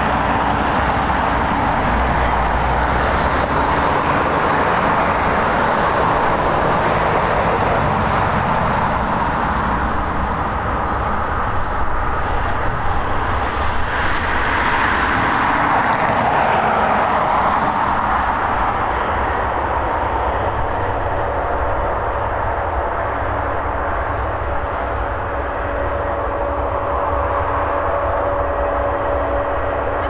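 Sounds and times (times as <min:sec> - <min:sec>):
jet engines taxiing: 0:00.0 - 0:30.0.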